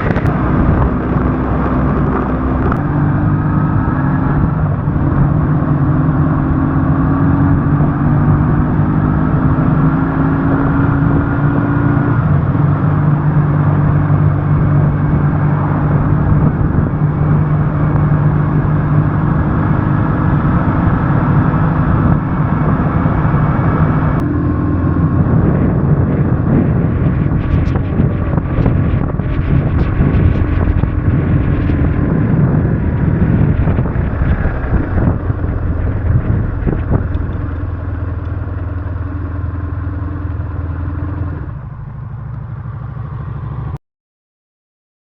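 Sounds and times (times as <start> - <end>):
wind rush over microphone: 0.0 - 41.8
motorcycle engine cruising: 0.0 - 43.8.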